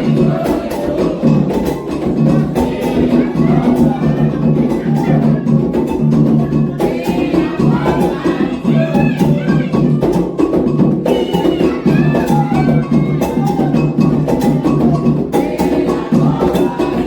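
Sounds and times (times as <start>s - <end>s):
hand drums playing: 0.0s - 17.0s
voices singing: 0.0s - 17.0s.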